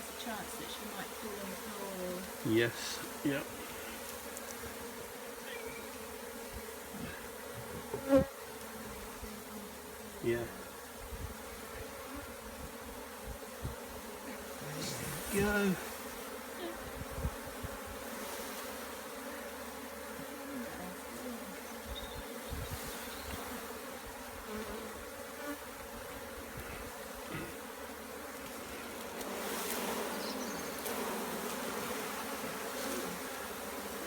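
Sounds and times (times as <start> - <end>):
bee swarm humming: 0.0 - 34.0
bees droning past: 0.0 - 34.0.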